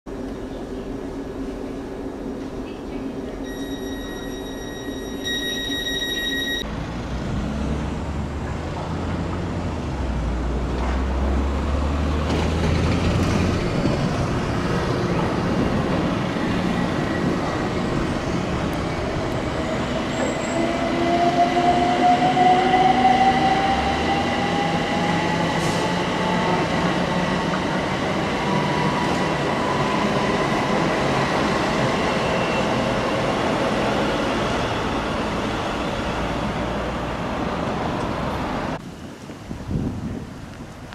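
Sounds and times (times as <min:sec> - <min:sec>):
rail rumble: 0:00.1 - 0:40.9.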